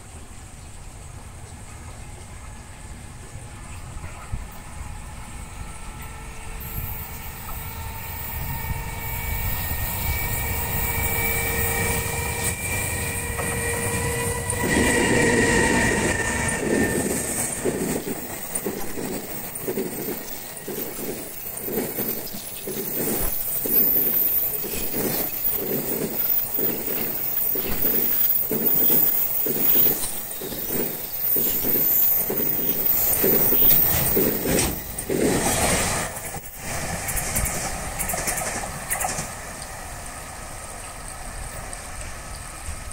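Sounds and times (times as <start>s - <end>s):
electric locomotive whine: 0.0s - 42.9s
train wheels clickety-clack: 6.0s - 42.9s.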